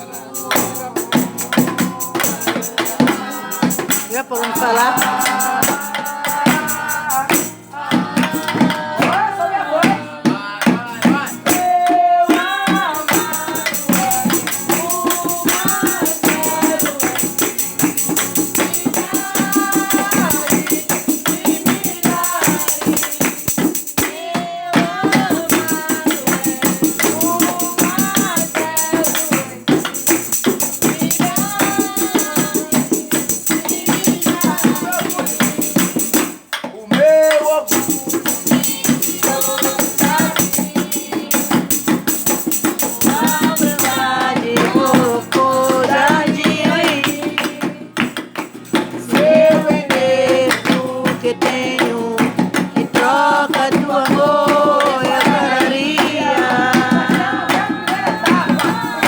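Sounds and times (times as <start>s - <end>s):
voices singing gospel song: 0.0s - 59.0s.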